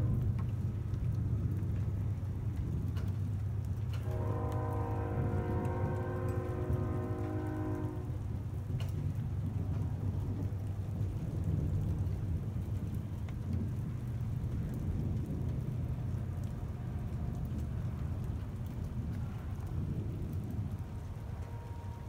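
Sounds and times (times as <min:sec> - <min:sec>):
faint rain: 0:00.0 - 0:22.0
raindrop ticks: 0:00.0 - 0:22.0
thunder rumbling: 0:00.0 - 0:22.0.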